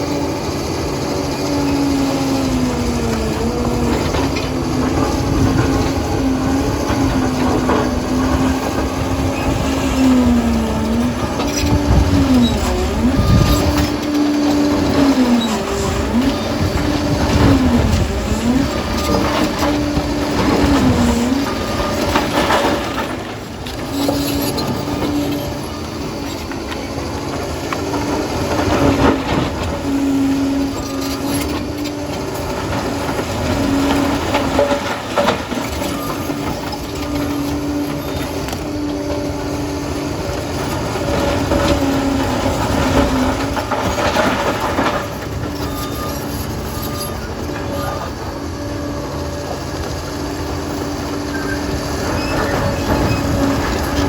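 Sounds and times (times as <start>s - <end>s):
clatter of steel tracks: 0.0s - 54.0s
diesel engine lugging: 0.0s - 54.0s.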